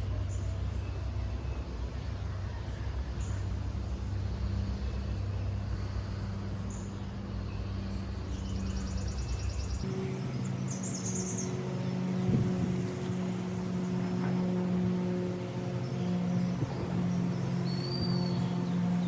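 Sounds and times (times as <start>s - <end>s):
low motor-like hum: 0.0s - 19.0s.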